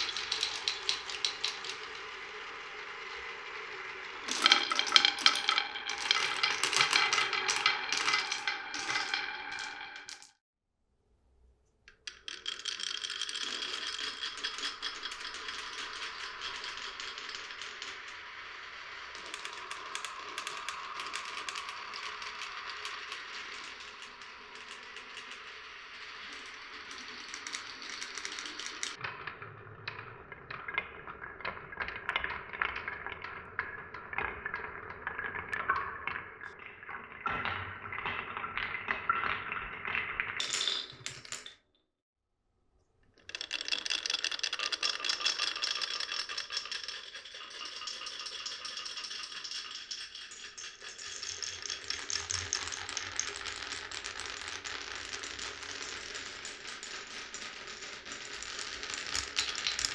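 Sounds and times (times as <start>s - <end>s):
marbles rolling through wooden run: 0.0s - 10.4s, 11.9s - 41.6s, 43.1s - 59.9s.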